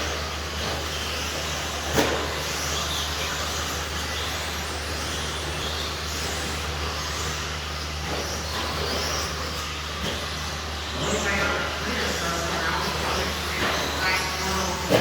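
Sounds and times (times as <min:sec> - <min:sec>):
rc truck motors whining: 0:00.0 - 0:15.0.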